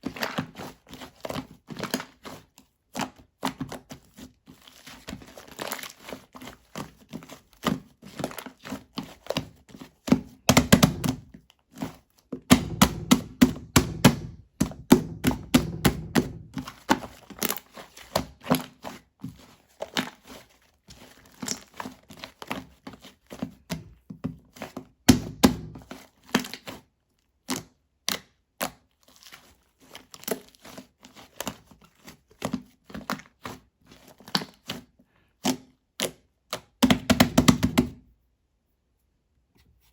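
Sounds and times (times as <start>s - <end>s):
slime squishing: 0.0s - 37.4s.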